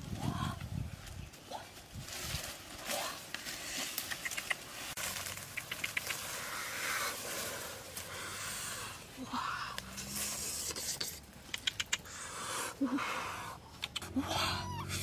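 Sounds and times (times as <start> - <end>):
grass and leaves rustling: 0.0 - 15.0.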